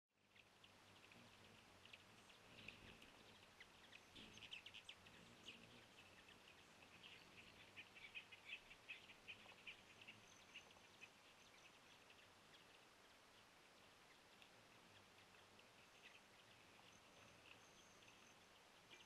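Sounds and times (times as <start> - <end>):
quiet outdoor background noise: 0.1 - 19.0
small birds chirping: 0.1 - 19.0.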